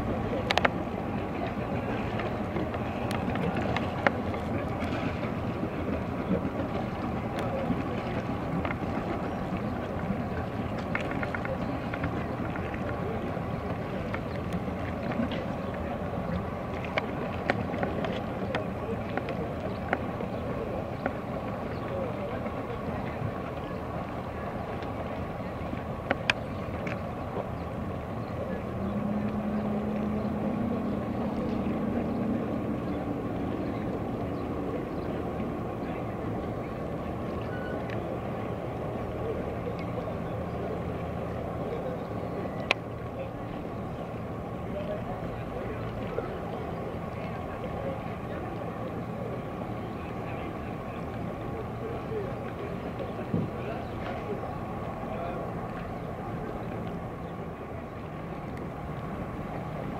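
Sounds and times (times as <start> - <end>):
motor engine humming: 0.0 - 59.9
outdoor background noise: 0.0 - 59.9.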